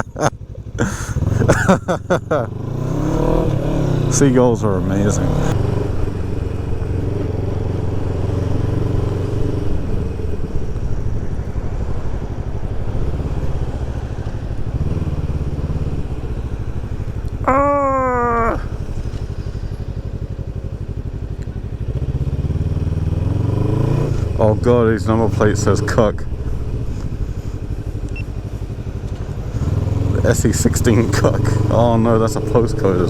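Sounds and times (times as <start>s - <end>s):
motorcycle engine running at low revs: 0.0s - 33.0s.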